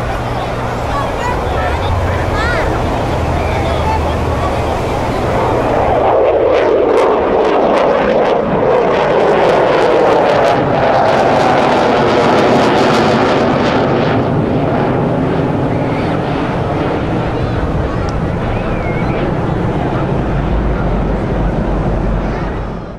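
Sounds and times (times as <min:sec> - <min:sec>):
military aircraft flying by: 0:00.0 - 0:22.9.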